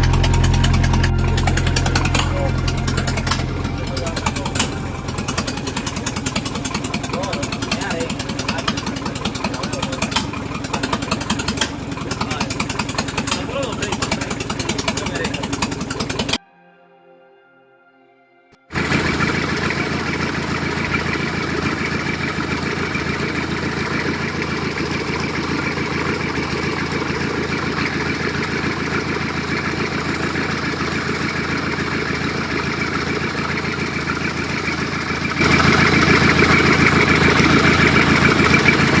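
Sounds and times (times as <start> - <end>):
diesel engine idling: 0.0 - 16.4, 18.7 - 39.0.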